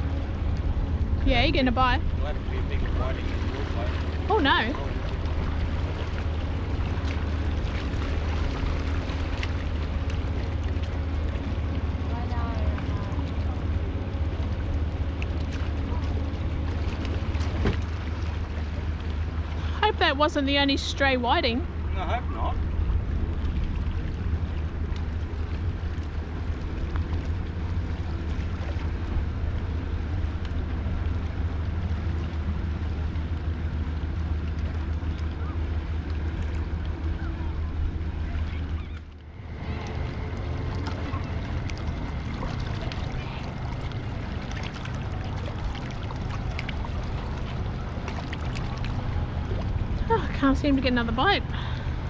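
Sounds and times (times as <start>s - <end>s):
low motor hum: 0.0s - 52.0s.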